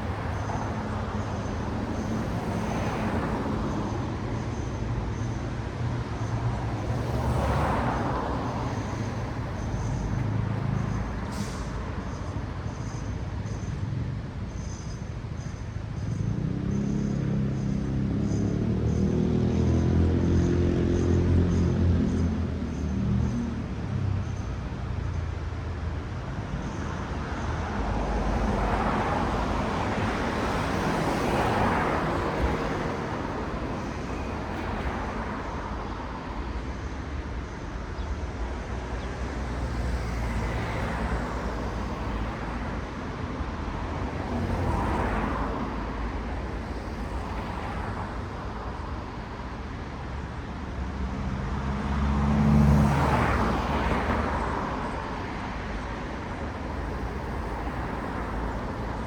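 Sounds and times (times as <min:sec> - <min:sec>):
cars passing: 0:00.0 - 0:14.2, 0:16.1 - 0:59.0.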